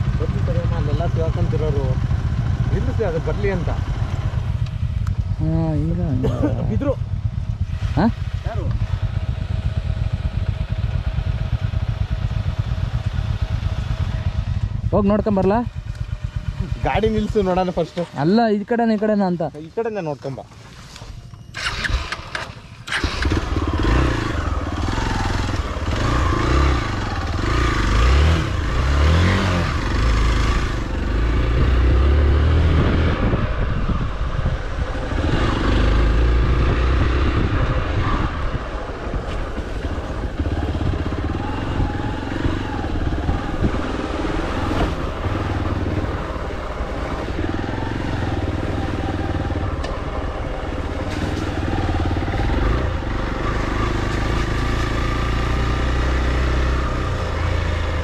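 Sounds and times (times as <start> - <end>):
motorcycle engine revving: 0.0 - 20.0, 21.2 - 58.0.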